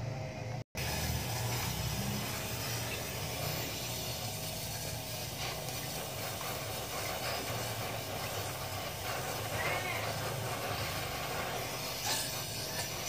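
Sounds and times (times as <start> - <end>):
welding torch hissing: 0.8 - 13.0.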